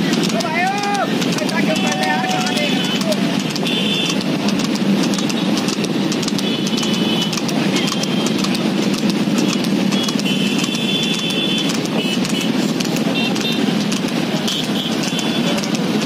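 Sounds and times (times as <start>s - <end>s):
buffalo hoofbeats: 0.0s - 16.0s
cart clattering: 0.0s - 16.0s
motorcycle engines and road noise: 0.0s - 16.0s.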